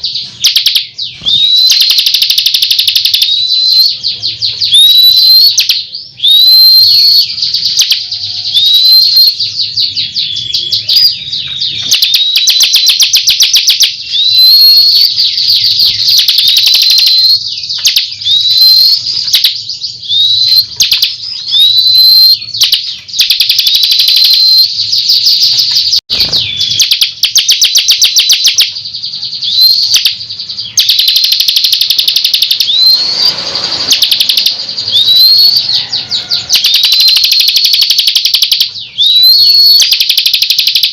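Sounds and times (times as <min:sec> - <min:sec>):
bird singing whistles and trills: 0:00.0 - 0:40.9.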